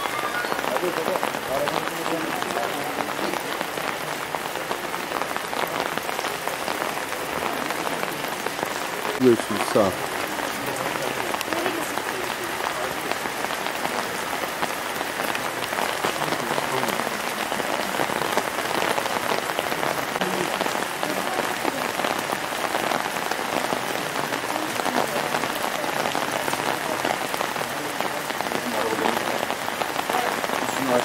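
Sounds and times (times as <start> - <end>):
rain pattering on street and cars: 0.0 - 31.0.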